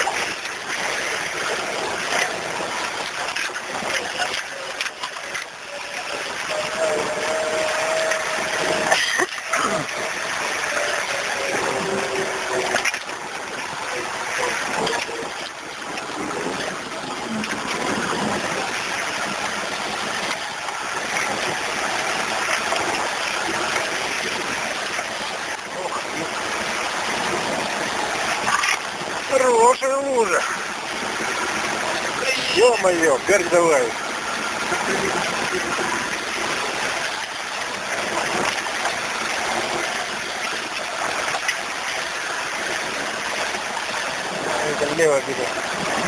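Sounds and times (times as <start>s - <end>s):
water splashing: 0.0s - 46.0s.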